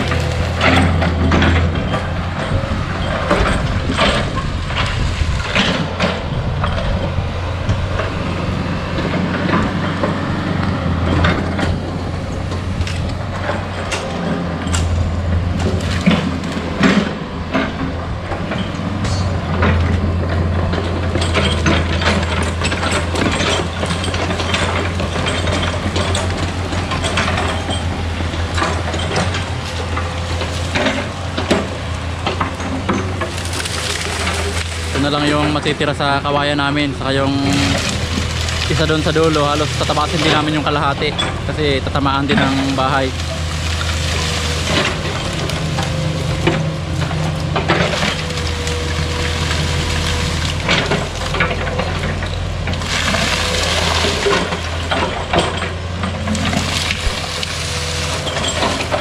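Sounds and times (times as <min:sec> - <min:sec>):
excavator diesel engine running: 0:00.0 - 0:59.0
machine knocks and clatter: 0:00.0 - 0:59.0.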